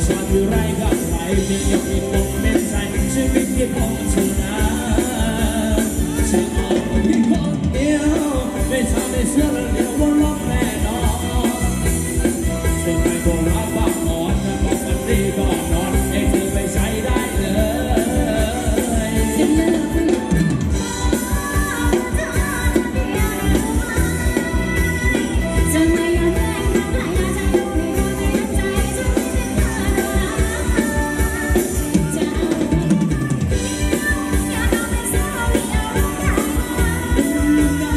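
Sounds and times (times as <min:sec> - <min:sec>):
dance band playing: 0:00.0 - 0:37.9
fast drum beat: 0:00.0 - 0:37.9.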